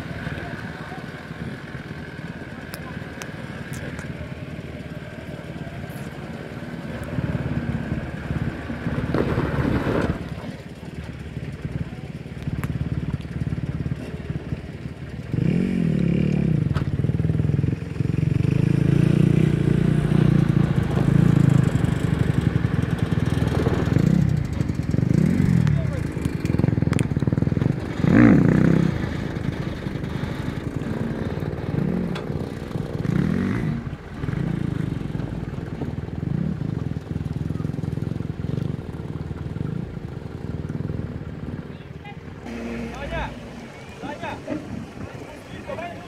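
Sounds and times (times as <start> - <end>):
four-wheel drive engine labouring: 0.0 - 46.0.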